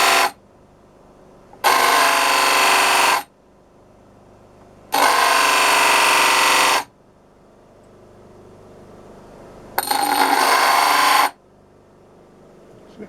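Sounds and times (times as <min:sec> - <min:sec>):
faint motor hum: 0:00.0 - 0:13.0.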